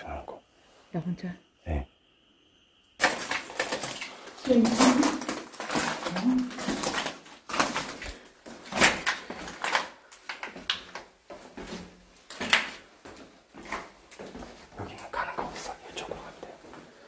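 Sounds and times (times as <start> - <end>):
footsteps going down stairs: 3.3 - 17.0.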